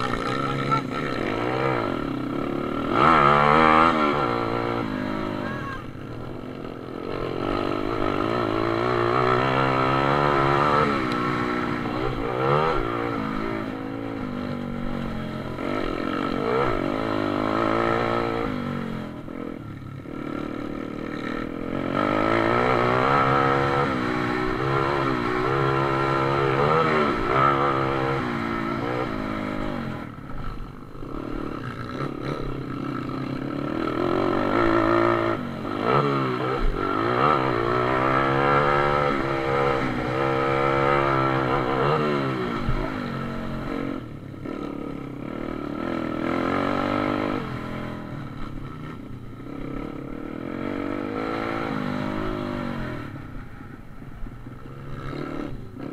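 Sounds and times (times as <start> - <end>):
small motorbike engines revving: 0.0 - 55.9.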